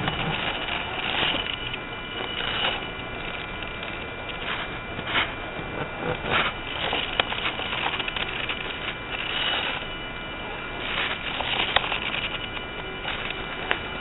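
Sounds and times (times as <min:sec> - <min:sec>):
electric motor and drivetrain hum: 0:00.0 - 0:14.0
gritty crunching: 0:00.0 - 0:14.0.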